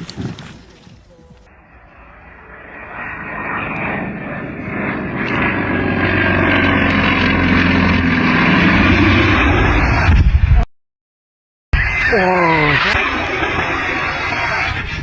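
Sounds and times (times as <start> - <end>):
airplane engine noise: 0.0 - 10.7, 11.8 - 15.0.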